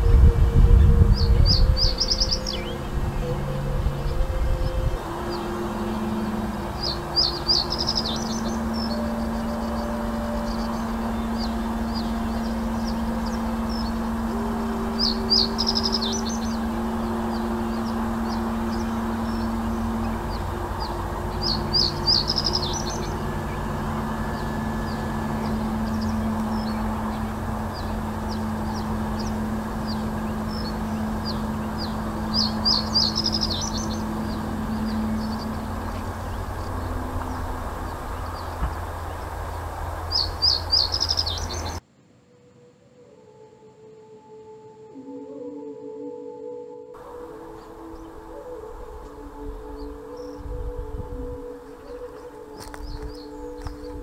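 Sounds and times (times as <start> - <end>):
reed bunting singing: 0.0 - 41.8, 47.0 - 54.0
steady low hum: 0.0 - 41.8, 47.0 - 54.0.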